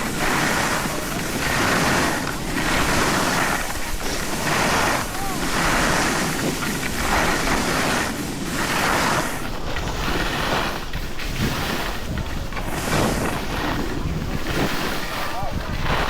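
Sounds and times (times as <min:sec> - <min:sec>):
skis scraping on snow: 0:00.0 - 0:16.0
wind rushing over microphone: 0:00.0 - 0:16.0.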